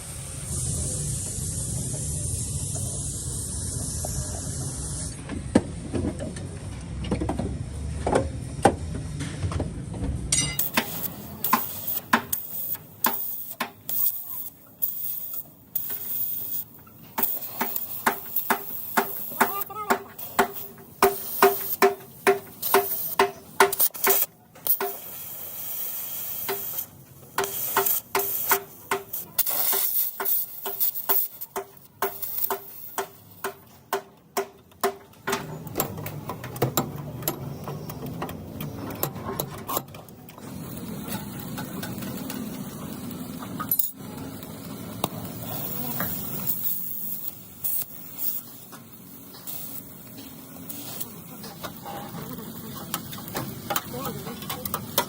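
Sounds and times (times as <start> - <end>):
steady hissing noise: 0.0 - 6.0, 10.3 - 39.0, 39.7 - 55.0.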